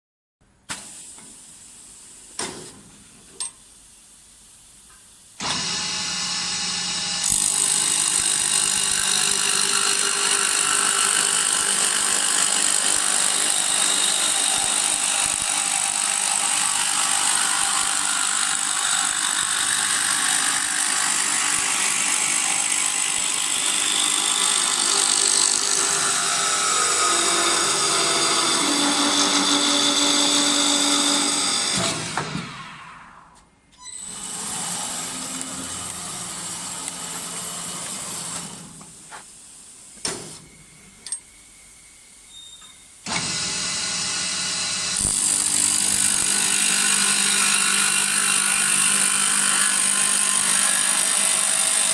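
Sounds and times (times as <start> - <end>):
wood-turning lathe whining: 5.4 - 38.8, 41.1 - 51.9.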